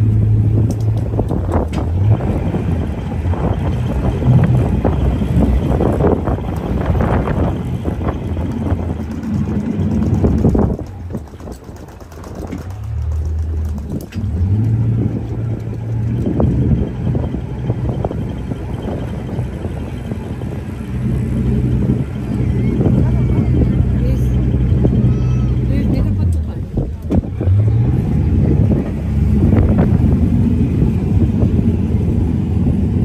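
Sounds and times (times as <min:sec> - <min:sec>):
boat motor humming: 0:00.0 - 0:33.0
wind noise on microphone: 0:00.0 - 0:33.0.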